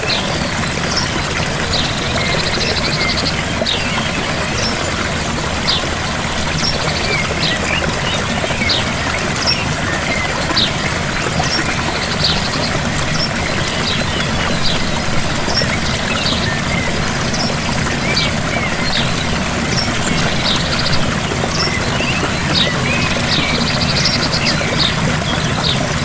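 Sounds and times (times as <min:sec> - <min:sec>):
birds chirping: 0:00.0 - 0:26.0
small waterfall running: 0:00.0 - 0:26.0.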